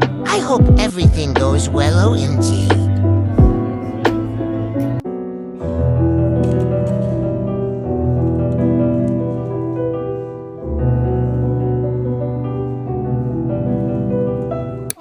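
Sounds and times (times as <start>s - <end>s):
piano chords over bass notes: 0.0s - 14.9s.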